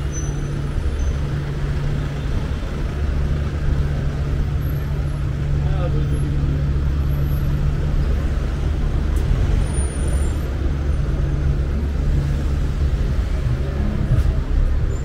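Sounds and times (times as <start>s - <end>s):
road noise: 0.0s - 15.0s
vehicle engines droning: 0.0s - 15.0s.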